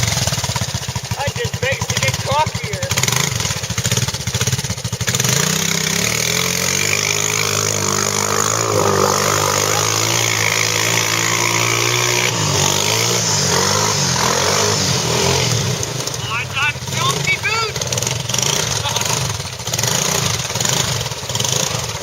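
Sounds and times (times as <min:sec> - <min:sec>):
atv engine under throttle: 0:00.0 - 0:22.0.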